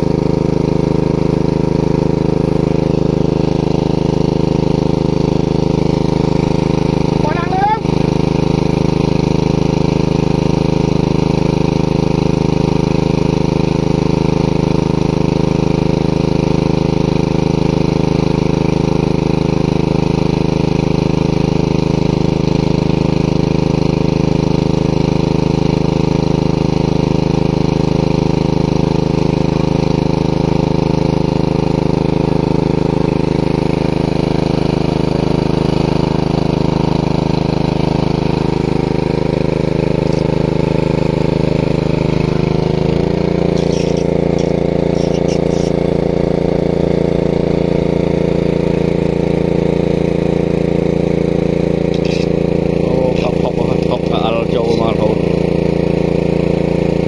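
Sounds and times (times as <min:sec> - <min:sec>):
water pump engine running: 0:00.0 - 0:57.0.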